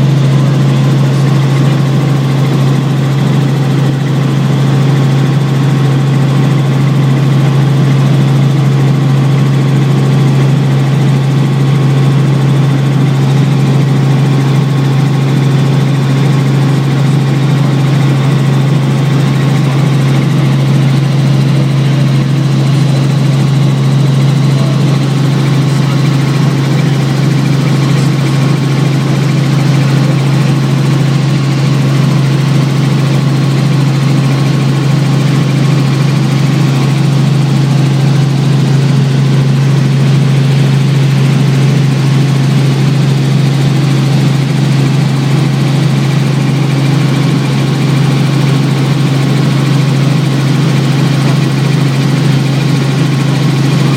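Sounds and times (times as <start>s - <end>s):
helicopter engine and rotors: 0.0s - 53.9s.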